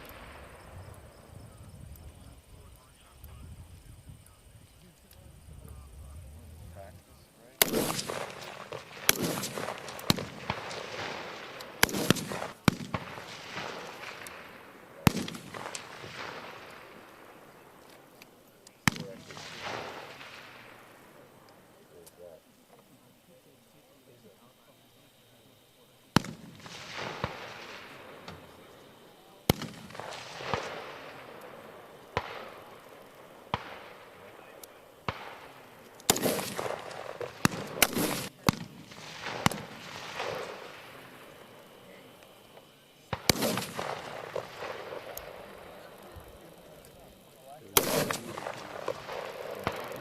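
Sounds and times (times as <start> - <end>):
rifle shots echoing: 0.0 - 1.6, 7.5 - 22.3, 26.1 - 50.0.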